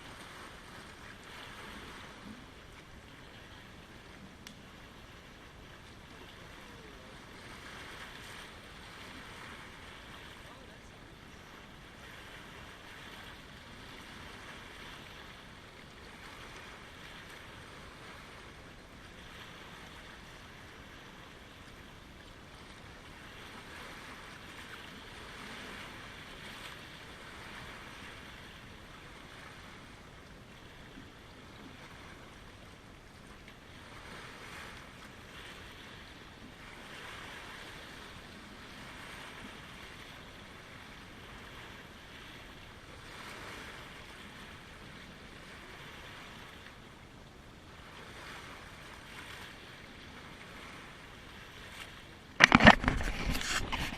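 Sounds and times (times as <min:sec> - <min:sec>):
water rushing with waves: 0:00.0 - 0:53.9.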